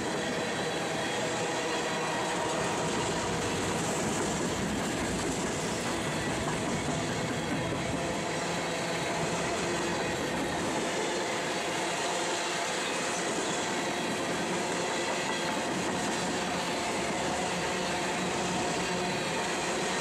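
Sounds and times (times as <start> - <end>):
steel wheels on rails: 0.0 - 20.0.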